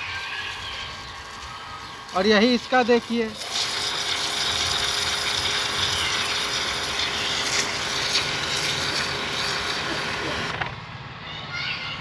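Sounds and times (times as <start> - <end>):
pump rattling: 0.0 - 10.8
water jet hissing into soil: 0.2 - 10.6.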